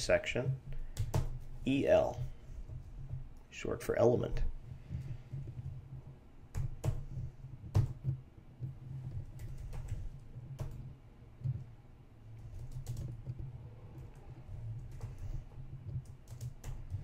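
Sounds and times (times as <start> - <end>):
low steady hum: 0.0 - 17.0
computer keyboard typing: 0.8 - 3.2, 5.0 - 11.7, 12.4 - 17.0.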